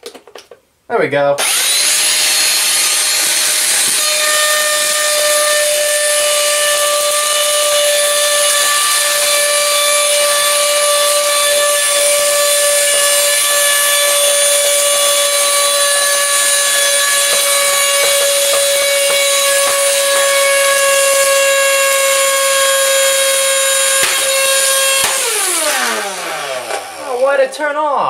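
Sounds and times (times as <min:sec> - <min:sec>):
handheld vacuum whining: 0:01.4 - 0:27.5.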